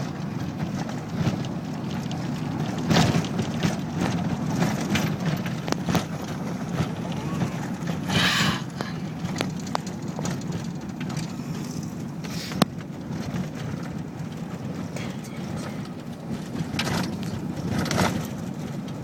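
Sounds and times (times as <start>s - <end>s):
knocks and rattles: 0.0s - 19.0s
road and engine rumble: 0.0s - 19.0s.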